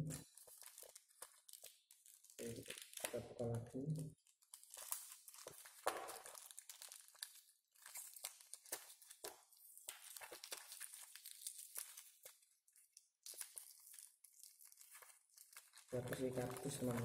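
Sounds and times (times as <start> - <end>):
parcel wrapping rustling: 0.0 - 3.2, 4.1 - 17.0
wrapping ripping: 0.1 - 3.3, 4.2 - 17.0.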